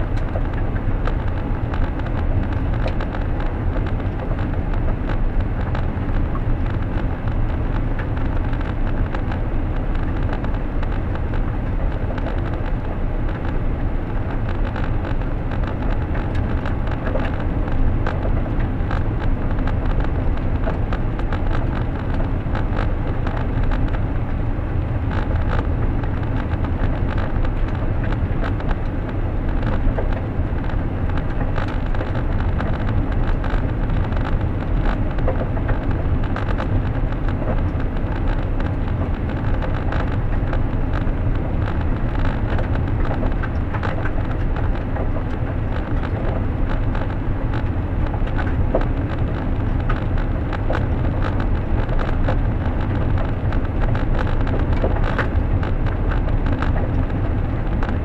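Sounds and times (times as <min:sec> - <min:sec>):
car engine and tyre rumble: 0:00.0 - 0:58.0
faint ticks and knocks from road: 0:00.0 - 0:58.0.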